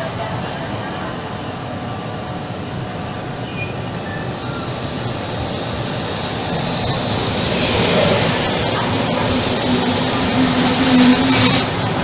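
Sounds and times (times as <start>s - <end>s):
train pulling into station: 0.0s - 12.0s.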